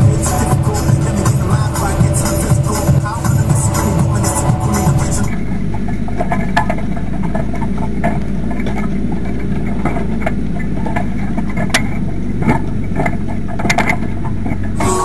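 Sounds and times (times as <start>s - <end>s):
tractor engine drone: 0.0s - 15.0s.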